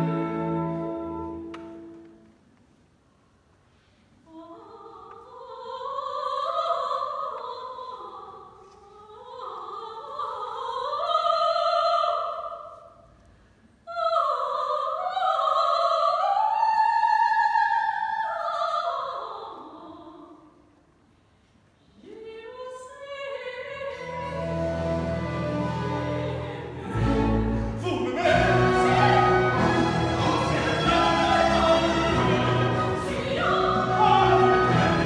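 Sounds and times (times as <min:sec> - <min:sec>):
woman singing classical with vibrato: 0:04.2 - 0:13.0, 0:13.8 - 0:20.7, 0:22.0 - 0:35.0.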